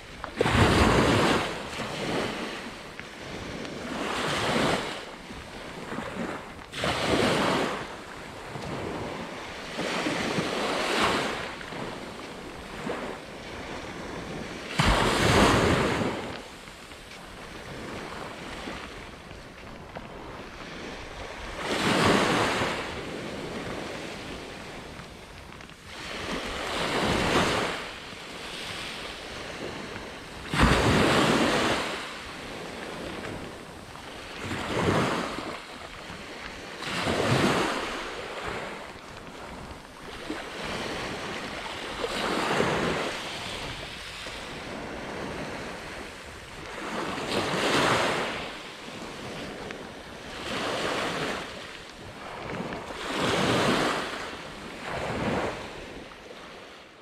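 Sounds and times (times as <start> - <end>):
wind hiss: 0.0 - 56.6
waves breaking on beach: 0.0 - 57.0.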